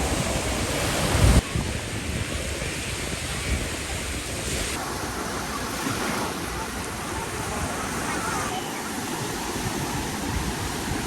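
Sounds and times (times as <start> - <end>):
sea surf washing on beach: 0.0 - 11.0
wind buffeting microphone: 0.0 - 11.0.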